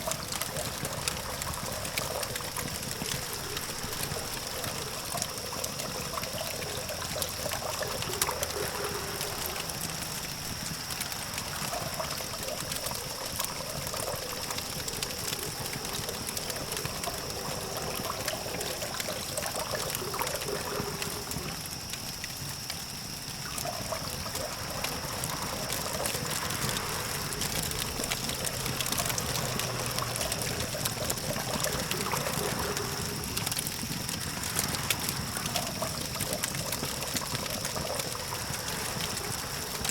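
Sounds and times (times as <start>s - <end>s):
distant traffic hum: 0.0s - 21.7s, 23.4s - 39.9s
campfire crackling and popping: 0.0s - 39.9s.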